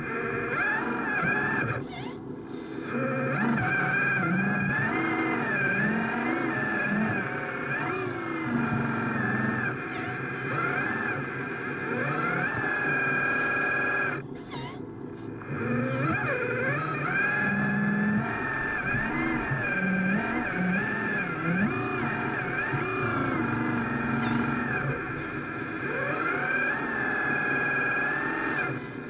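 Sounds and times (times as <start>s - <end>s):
electric motors whining: 0.0s - 29.0s
hydraulic pump whining: 0.0s - 29.0s.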